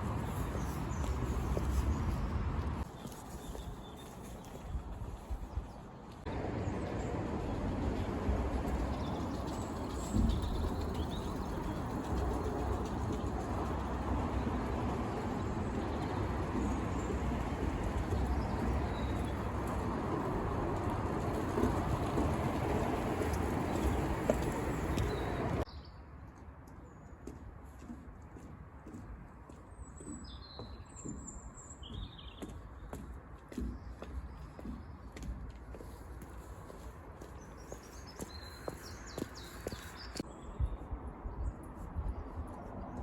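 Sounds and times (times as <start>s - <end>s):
birds chirping: 0.0s - 20.4s, 21.1s - 25.9s, 29.6s - 40.8s.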